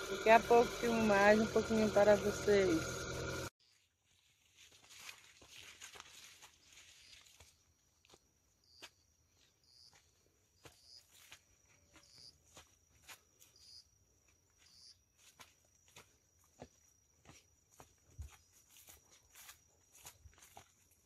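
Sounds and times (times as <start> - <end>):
high insect trill: 0.0 - 3.8, 4.9 - 21.0
faint footsteps on dirt: 3.6 - 21.0.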